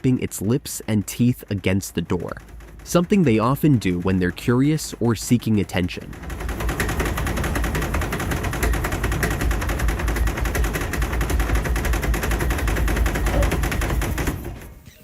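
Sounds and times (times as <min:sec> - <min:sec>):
horse lips rattling against door: 0:00.0 - 0:14.9.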